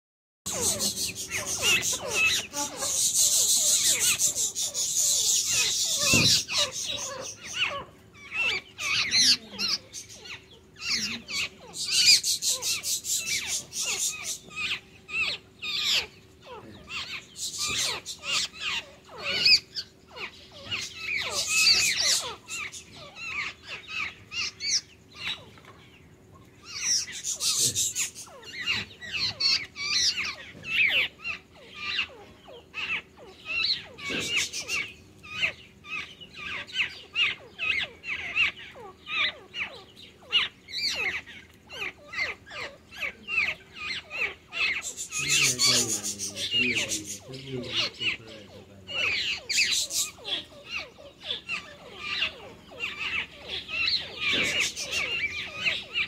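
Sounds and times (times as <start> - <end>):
faint steady hum: 0.5 - 56.0
songbirds chattering: 0.5 - 56.0.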